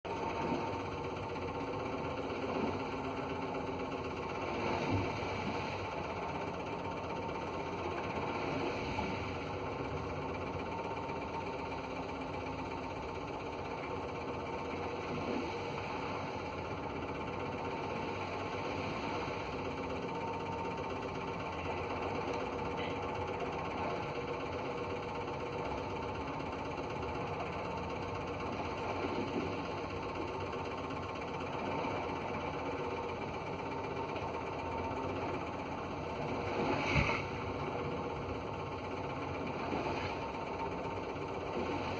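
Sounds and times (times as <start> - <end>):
ship engine droning hum: 0.1 - 41.9.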